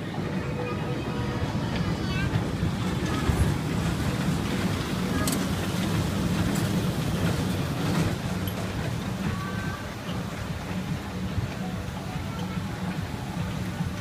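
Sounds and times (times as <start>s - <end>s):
small ride train rumbling: 0.0s - 14.0s.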